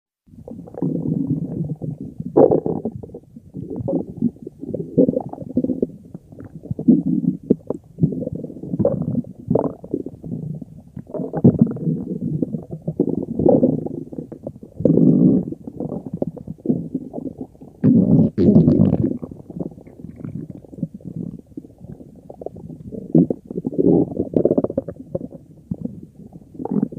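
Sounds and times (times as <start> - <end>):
stomach growling: 0.4 - 26.9.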